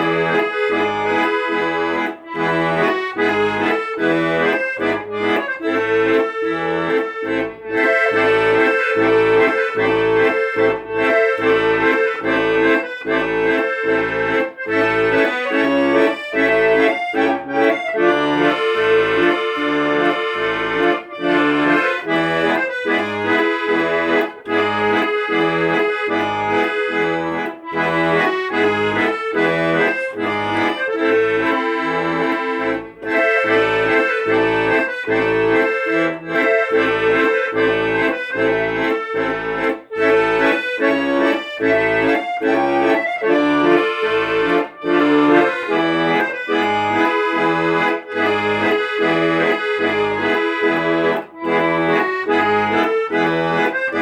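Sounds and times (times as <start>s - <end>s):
accordion music: 0.0s - 54.0s.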